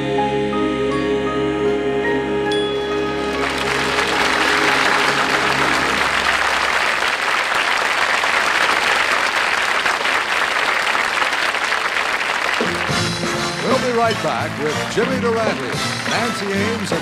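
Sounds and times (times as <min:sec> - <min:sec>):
audience applauding: 0:03.2 - 0:17.0.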